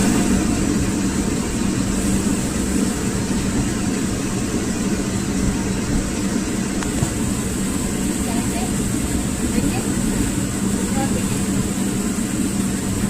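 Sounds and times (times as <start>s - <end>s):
motor running with low rumble: 0.0s - 13.0s.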